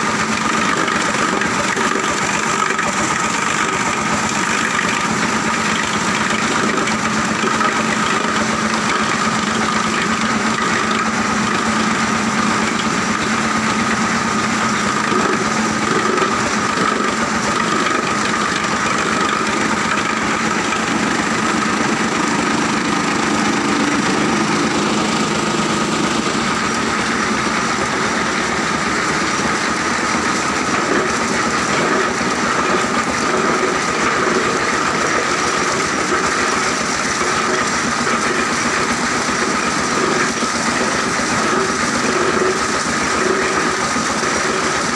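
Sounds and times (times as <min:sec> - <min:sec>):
machinery humming: 0:00.0 - 0:44.9
machinery whine: 0:00.0 - 0:44.9.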